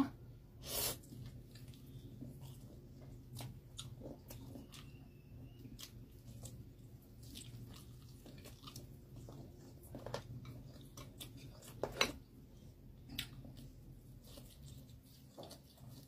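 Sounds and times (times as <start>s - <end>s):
low steady hum: 0.0s - 16.0s
person chewing food: 0.8s - 16.0s.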